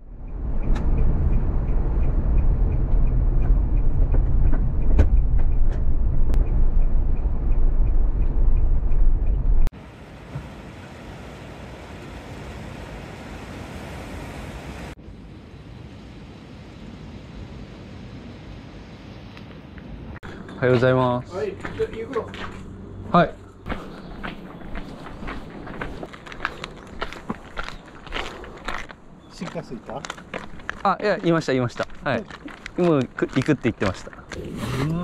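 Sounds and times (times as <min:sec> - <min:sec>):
vehicle road and engine rumble: 0:00.0 - 0:15.0, 0:16.3 - 0:35.0.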